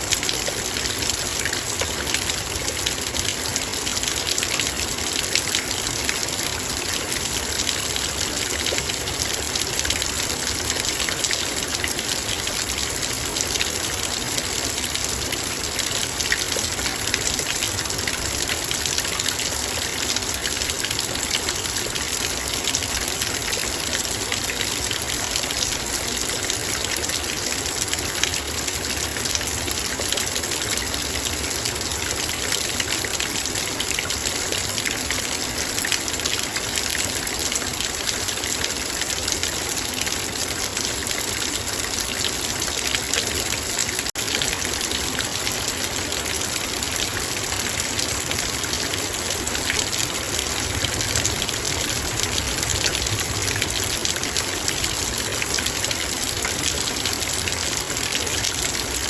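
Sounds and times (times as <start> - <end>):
rain pattering on metal bowl: 0.0 - 59.0.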